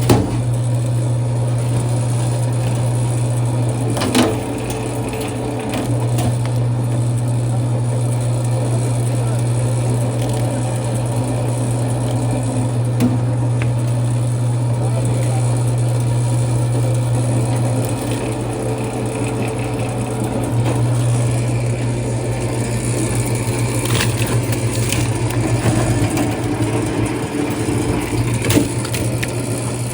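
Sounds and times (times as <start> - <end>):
electric motor hum: 0.0 - 29.9
machine grinding cable: 0.0 - 29.9.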